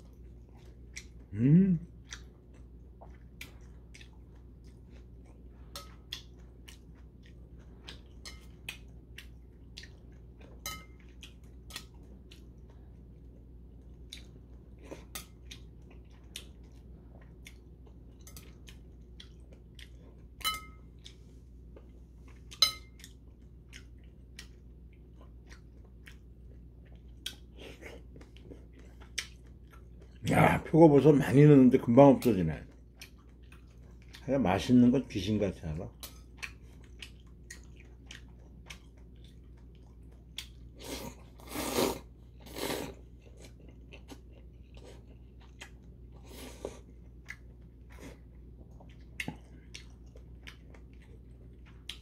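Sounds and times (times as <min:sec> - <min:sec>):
chewing and mouth sounds: 0:00.0 - 0:52.0
faint low hum: 0:00.0 - 0:52.0.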